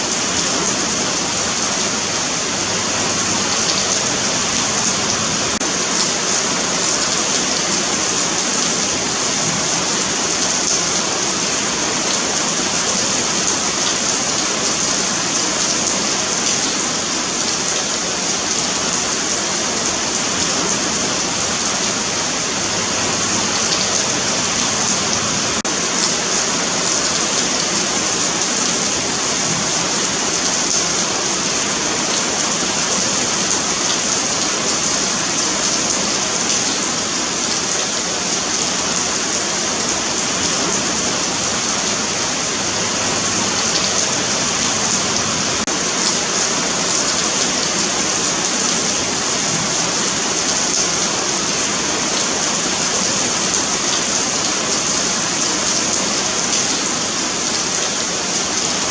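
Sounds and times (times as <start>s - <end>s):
rain on pavement: 0.0s - 58.9s.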